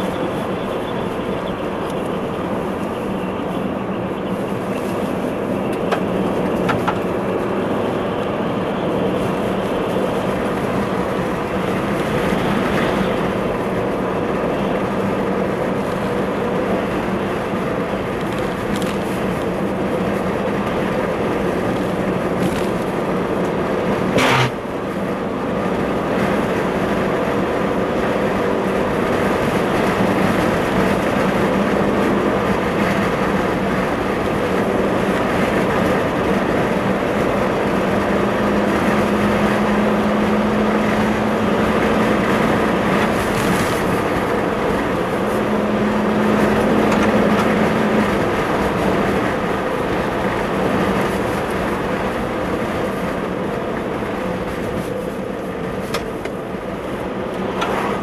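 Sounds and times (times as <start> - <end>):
car engine and tyre hum: 0.0 - 58.0.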